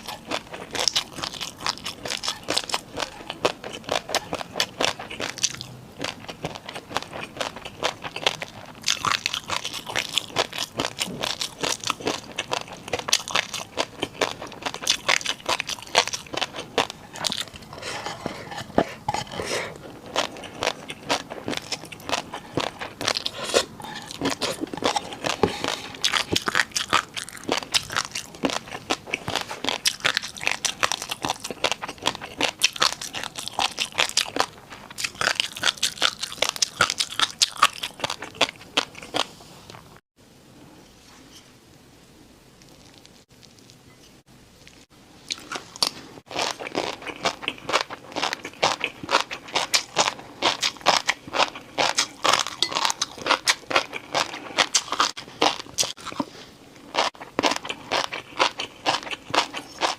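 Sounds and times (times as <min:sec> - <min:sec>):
crunchy noodles being chewed: 0:00.0 - 0:40.0, 0:44.6 - 0:59.9.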